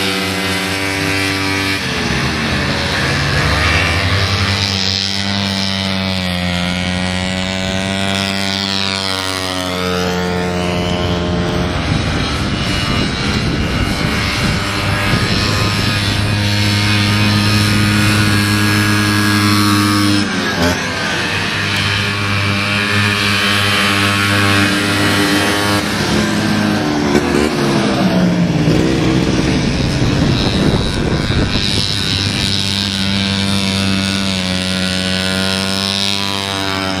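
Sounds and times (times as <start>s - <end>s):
snowmobiles racing past: 0.0s - 37.0s.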